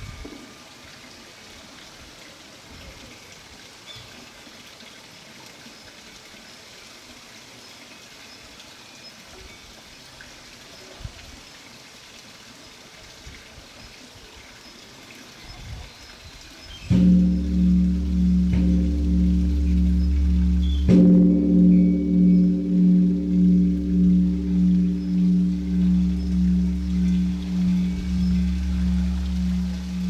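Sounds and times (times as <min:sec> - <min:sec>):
trickle of running water: 0:00.0 - 0:30.0.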